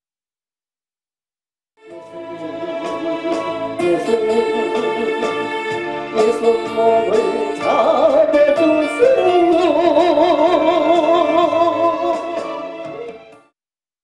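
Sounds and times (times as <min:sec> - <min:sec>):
praise music with vibrato melody: 0:01.8 - 0:13.6.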